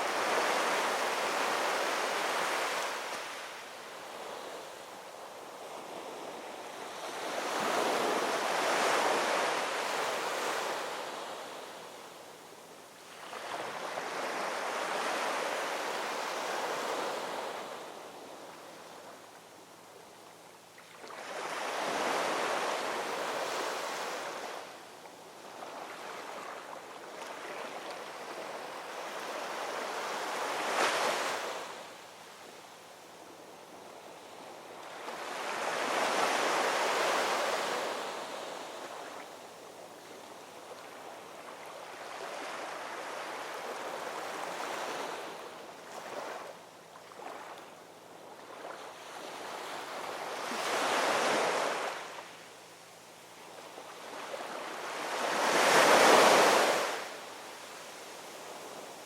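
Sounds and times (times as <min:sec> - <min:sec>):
ocean waves breaking on shore: 0:00.0 - 0:12.2, 0:13.1 - 0:18.6, 0:20.8 - 0:24.8, 0:25.4 - 0:32.0, 0:34.1 - 0:39.4, 0:40.0 - 0:52.4, 0:53.4 - 0:59.0.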